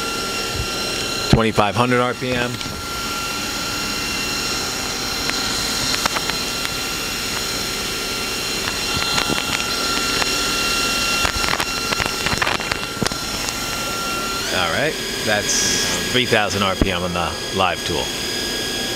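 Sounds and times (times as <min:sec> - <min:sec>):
milling tool whine: 0:00.0 - 0:18.9.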